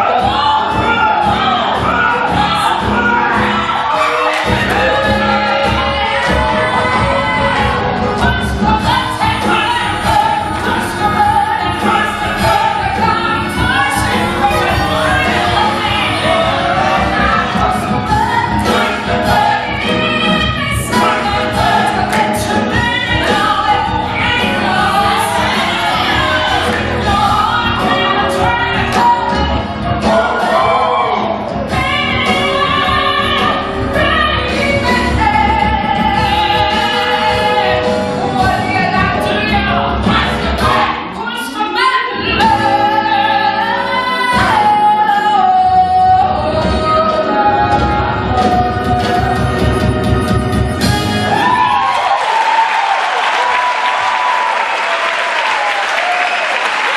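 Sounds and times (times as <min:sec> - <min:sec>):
band accompaniment with beat: 0:00.0 - 0:52.9
cast singing gospel chorus: 0:00.0 - 0:56.9.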